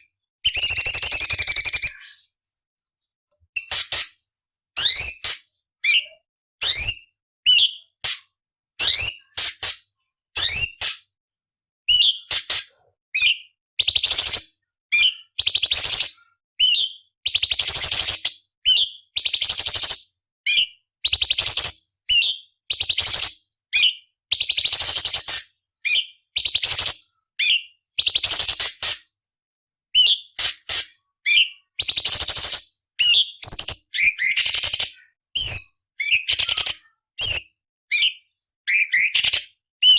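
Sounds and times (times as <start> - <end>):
bird whistling and rasping song: 0.0 - 2.4, 3.6 - 4.2, 4.8 - 11.1, 11.9 - 29.2, 29.9 - 39.9.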